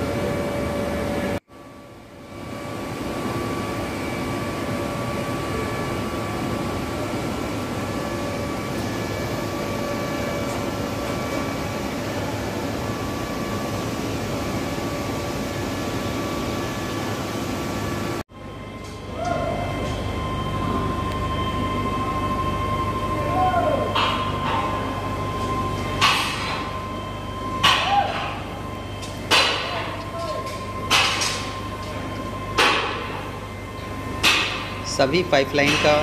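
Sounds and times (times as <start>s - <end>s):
industrial machinery drone: 0.0s - 36.0s.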